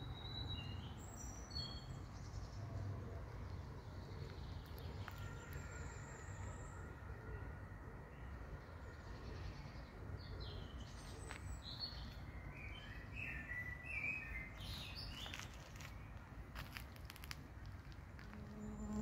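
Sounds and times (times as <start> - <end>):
songbirds chirping and twittering: 0.0 - 19.0.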